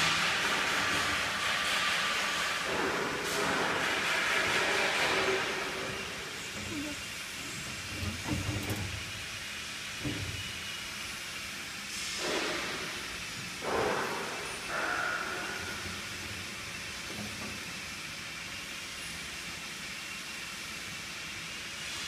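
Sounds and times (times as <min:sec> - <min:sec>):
machine hiss: 0:00.0 - 0:22.0.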